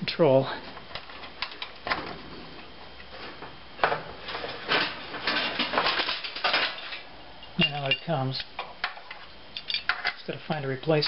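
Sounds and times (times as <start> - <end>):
wires rustling: 0.6 - 10.2.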